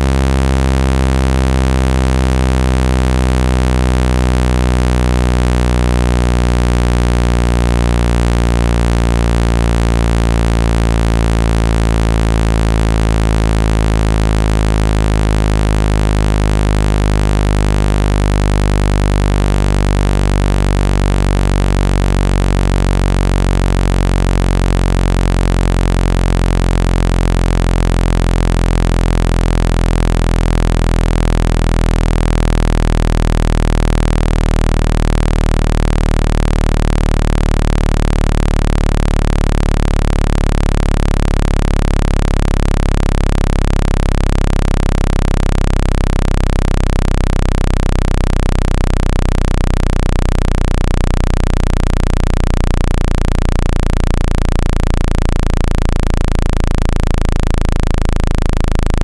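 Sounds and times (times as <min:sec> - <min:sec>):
fast pulsing low wobble: 0:00.0 - 0:59.0
synthesized low-pitched drone: 0:00.0 - 0:59.0.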